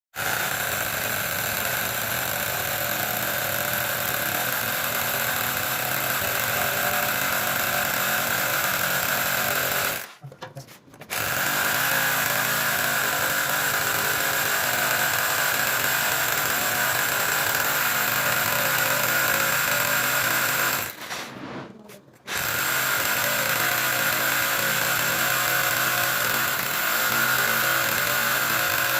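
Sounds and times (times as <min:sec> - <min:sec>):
power tool running: 0:00.2 - 0:10.2, 0:11.1 - 0:21.3, 0:22.2 - 0:28.9.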